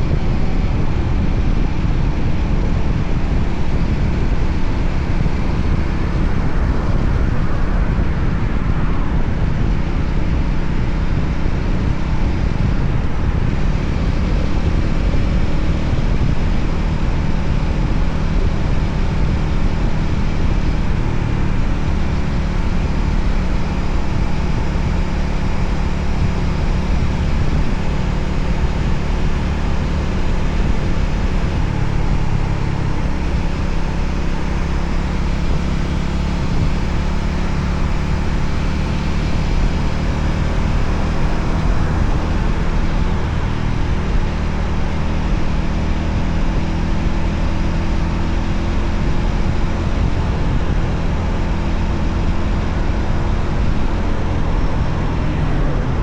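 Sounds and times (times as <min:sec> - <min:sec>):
motorcycle engine running: 0:00.0 - 0:56.0
road noise: 0:00.0 - 0:56.0
wind: 0:00.0 - 0:56.0.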